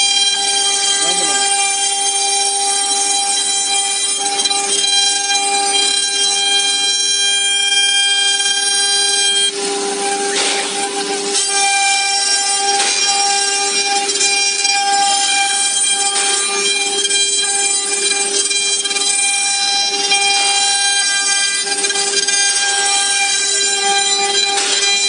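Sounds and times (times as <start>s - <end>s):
bit cutting wood: 0.0s - 25.0s
router spindle whining: 0.0s - 25.0s.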